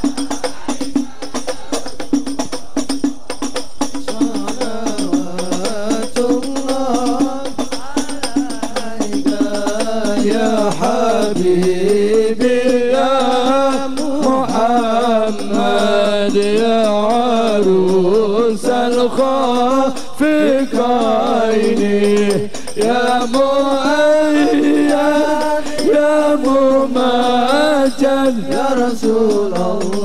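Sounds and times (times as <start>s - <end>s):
frame drums beating: 0.0s - 30.0s
man singing ornamented melody: 2.8s - 30.0s.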